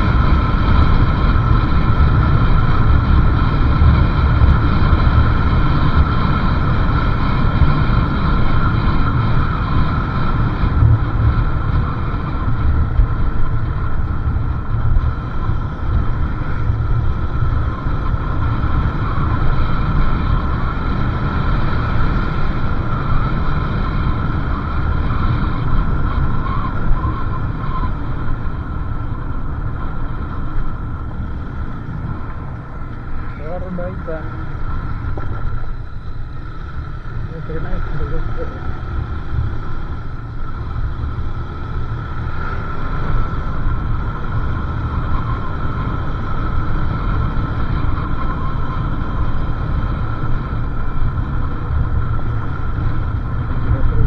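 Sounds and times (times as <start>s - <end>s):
motorcycle engine and road noise: 0.0s - 54.0s
steady high whine: 0.0s - 54.0s
wind rumble on microphone: 0.0s - 54.0s.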